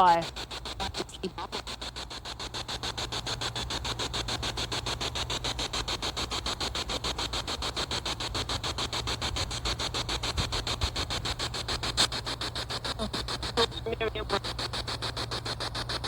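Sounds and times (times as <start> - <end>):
pulsing radio static: 0.0 - 16.0.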